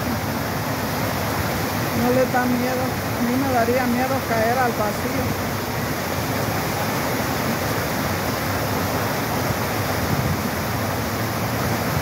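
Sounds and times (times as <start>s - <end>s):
water rushing over boulders: 0.0s - 12.0s.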